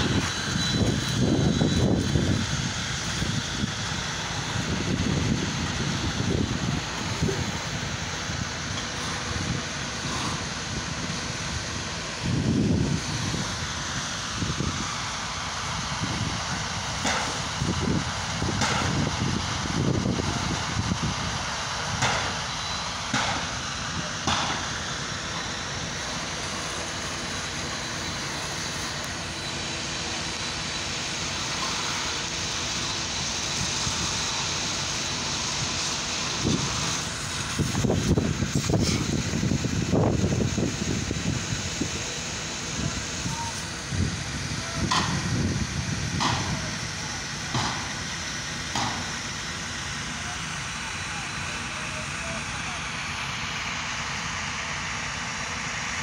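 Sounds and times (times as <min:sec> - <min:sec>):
fire engine drone: 0:00.0 - 0:56.0.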